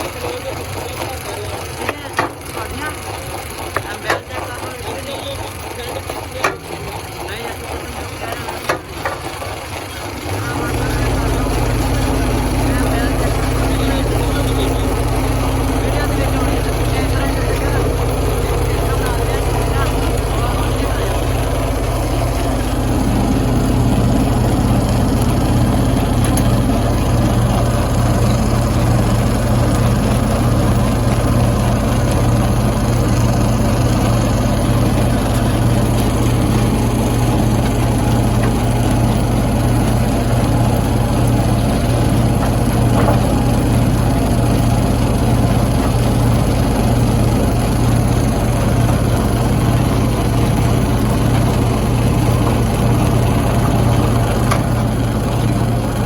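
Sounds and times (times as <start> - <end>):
stone crusher machinery running: 0.0 - 56.0.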